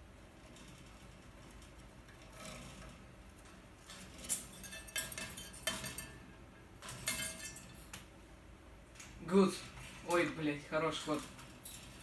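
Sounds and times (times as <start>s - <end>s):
wire birdcage clinking and rattling: 0.4s - 8.0s, 9.0s - 12.0s.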